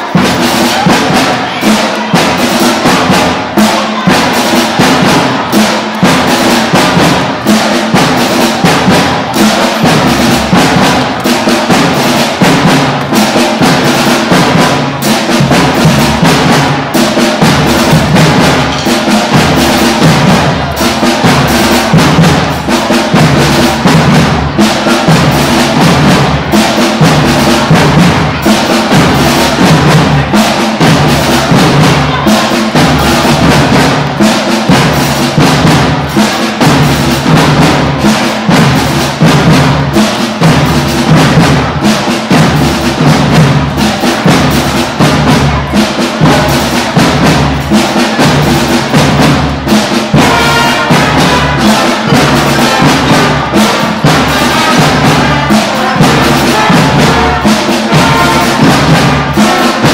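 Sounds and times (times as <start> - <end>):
school band playing: 0.0 - 59.9
steady drum beat: 0.0 - 59.9.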